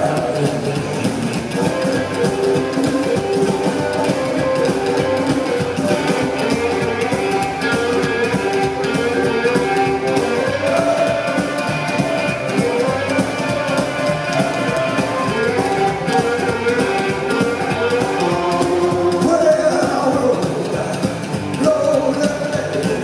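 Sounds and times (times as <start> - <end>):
drum kit: 0.0 - 23.0
electric guitar: 0.0 - 23.0
upright bass: 0.0 - 23.0.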